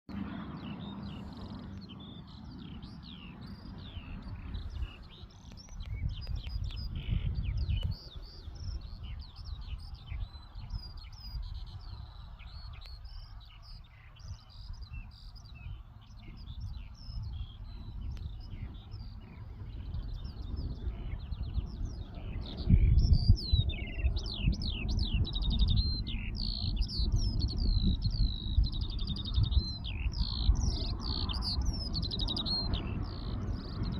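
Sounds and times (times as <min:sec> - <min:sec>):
low rumbling noise: 0:00.1 - 0:33.9
small birds chirping: 0:00.1 - 0:33.9.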